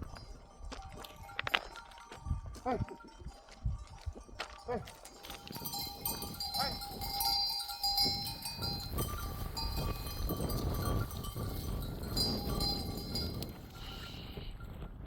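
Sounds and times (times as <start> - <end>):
animal bells jangling: 0.0 - 15.0.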